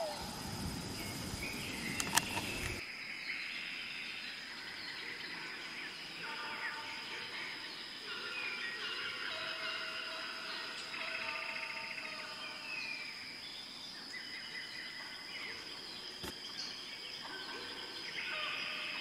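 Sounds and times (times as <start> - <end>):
bird chirps: 0.0 - 19.0.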